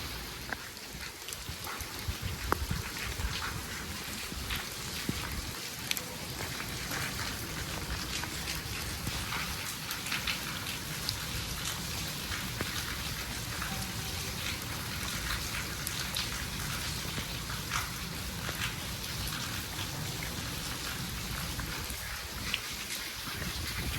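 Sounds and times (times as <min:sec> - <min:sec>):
heavy rain: 0:00.0 - 0:23.9
raindrops splashing on surfaces: 0:00.0 - 0:23.9.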